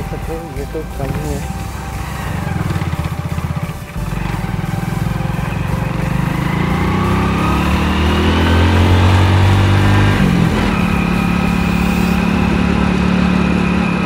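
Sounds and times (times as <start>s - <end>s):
motorcycle engine pulling away: 0.0s - 14.0s.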